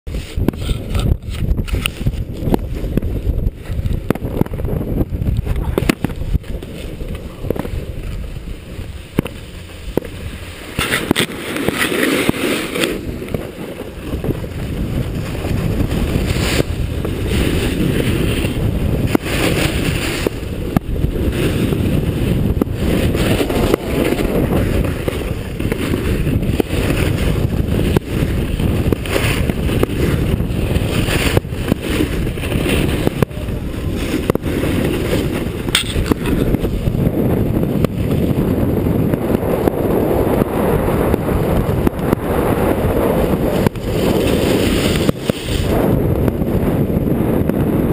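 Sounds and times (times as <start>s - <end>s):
wind rushing over microphone: 0.0s - 47.9s
snowboard edge scraping snow: 0.1s - 47.8s.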